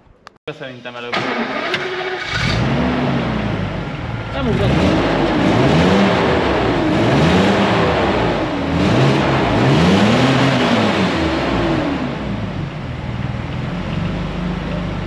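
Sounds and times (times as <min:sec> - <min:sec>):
car engine revving and idling: 0:01.7 - 0:15.0.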